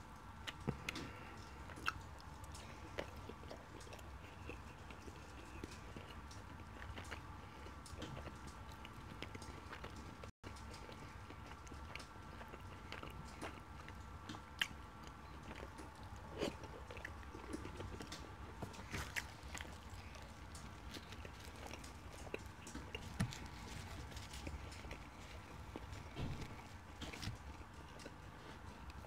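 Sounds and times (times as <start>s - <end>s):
faint steady hum: 0.0s - 29.0s
person chewing food: 0.0s - 29.0s.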